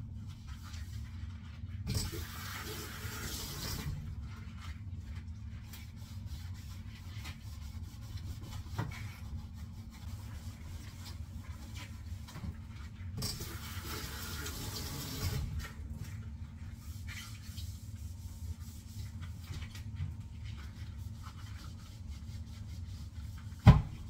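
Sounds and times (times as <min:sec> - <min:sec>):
low steady hum: 0:00.0 - 0:24.0
rubber gloves rubbing dishes: 0:00.0 - 0:24.0.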